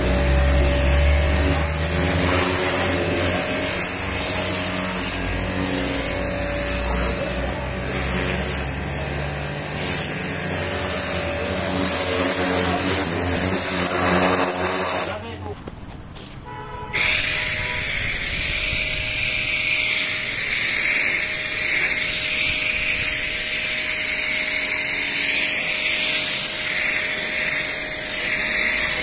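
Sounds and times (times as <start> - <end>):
water jet hissing on car body: 0.0 - 15.2, 17.0 - 29.0
pressure washer motor hum: 0.0 - 15.4, 17.0 - 29.0.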